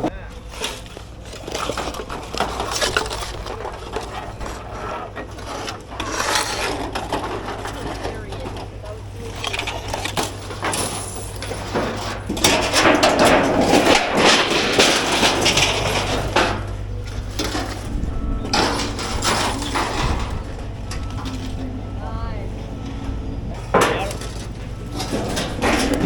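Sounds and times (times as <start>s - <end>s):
debris clattering and crashing: 0.0s - 26.0s
low engine drone: 0.0s - 26.0s.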